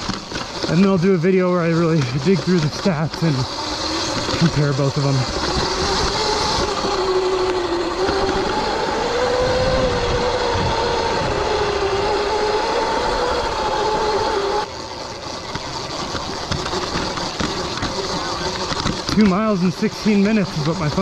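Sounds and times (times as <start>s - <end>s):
electric motor whine: 0.0s - 21.0s
broad rush of noise: 2.6s - 21.0s.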